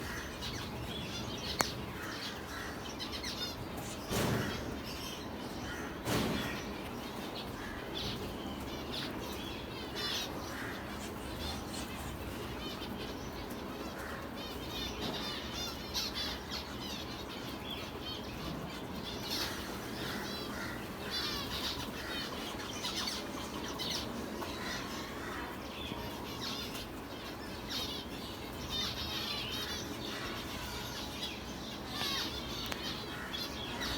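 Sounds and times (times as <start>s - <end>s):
low background noise: 0.0s - 33.9s
small birds chirping: 0.0s - 33.9s.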